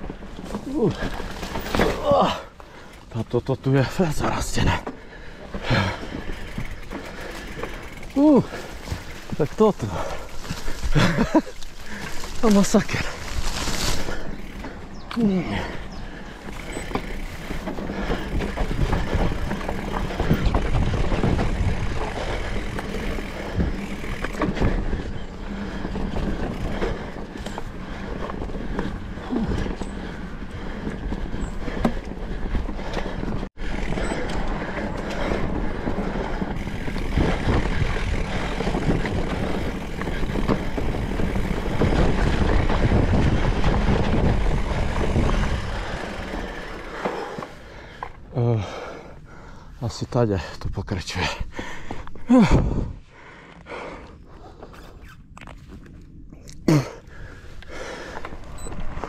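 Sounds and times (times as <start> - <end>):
bike rattling: 0.0 - 59.0
bike tyres rumbling on trail: 0.0 - 59.0
low wind buffeting: 0.0 - 59.0.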